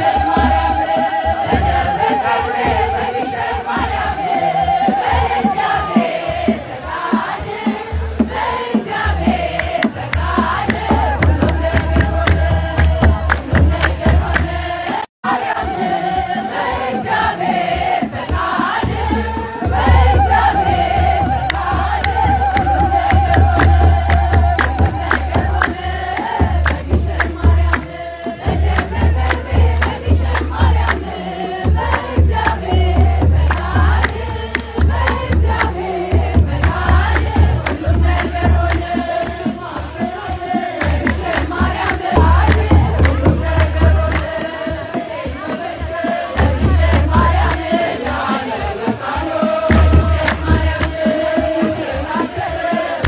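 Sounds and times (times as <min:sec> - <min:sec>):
crowd singing a hymn: 0:00.0 - 0:53.0
drum beating heavily: 0:00.0 - 0:53.0
rhythmic hand-clapping: 0:00.0 - 0:53.0.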